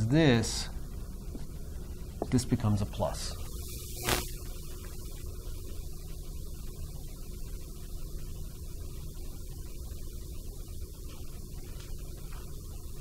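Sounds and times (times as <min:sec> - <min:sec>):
steady low hum: 0:00.0 - 0:13.0
faint hiss: 0:01.6 - 0:13.0.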